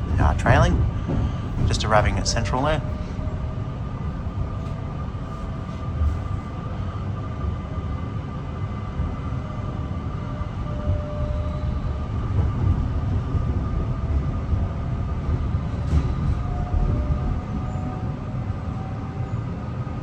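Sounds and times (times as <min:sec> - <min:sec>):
electric train rumbling past: 0:00.0 - 0:20.0.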